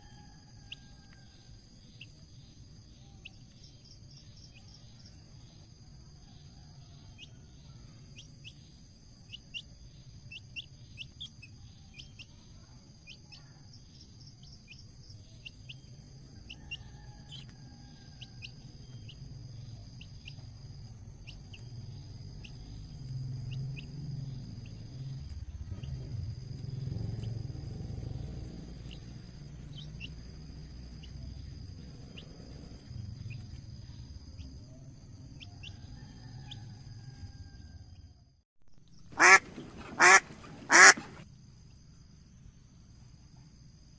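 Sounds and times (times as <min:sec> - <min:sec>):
high insect trill: 0:00.0 - 0:38.1, 0:38.9 - 0:43.9
small birds chirping: 0:00.6 - 0:37.2, 0:38.9 - 0:41.2.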